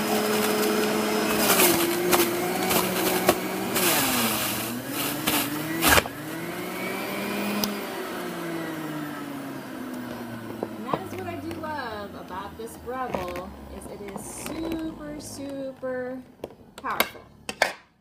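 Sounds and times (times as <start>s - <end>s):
vegetables cracking in juicer cutter: 0.0s - 12.4s, 13.0s - 15.7s
juicer motor whine: 0.0s - 17.5s.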